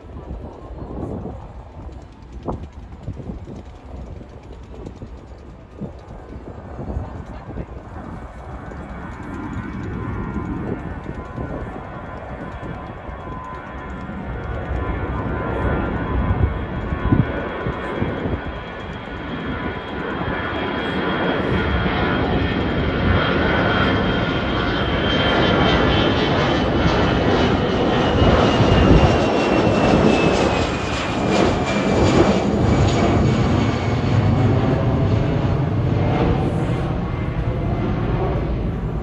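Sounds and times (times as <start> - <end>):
high jet whine: 0.0 - 39.0
jet engine roar: 0.0 - 39.0.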